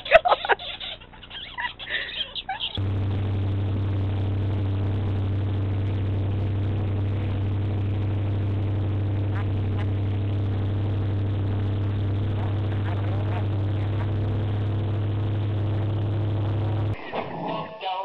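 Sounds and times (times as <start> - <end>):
motorboat engine droning: 1.6 - 17.0.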